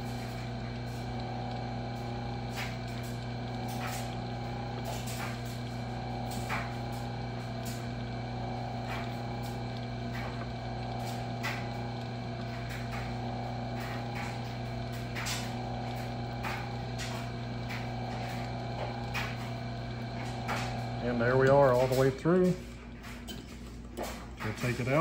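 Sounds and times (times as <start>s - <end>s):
lathe motor hum: 0.0s - 25.0s.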